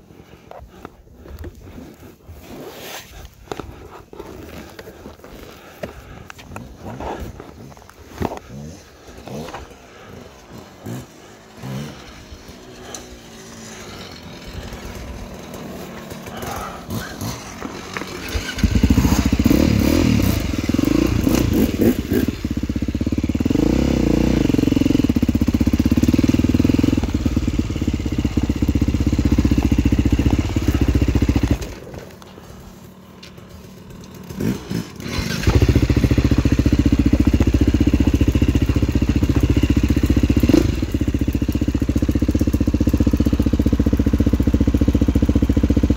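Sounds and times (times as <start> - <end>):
dirt bike engine: 0.0 - 45.9.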